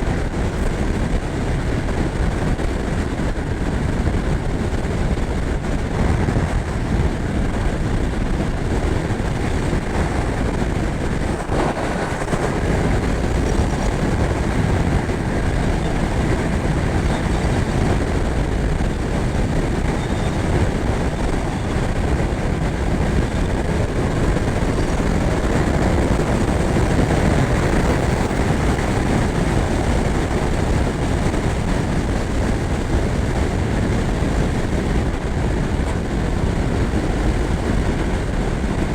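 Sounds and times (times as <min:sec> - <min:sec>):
motorcycle engine at speed: 0:00.0 - 0:38.9
wind noise: 0:00.0 - 0:38.9.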